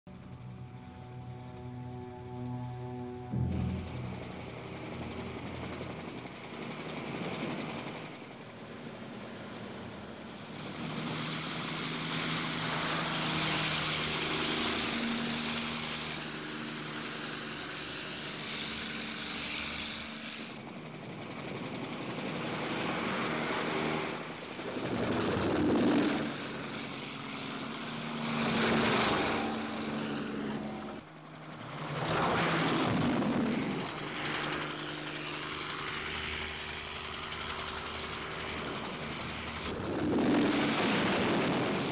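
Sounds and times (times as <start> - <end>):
helicopter engine and rotor: 0.1 - 41.9.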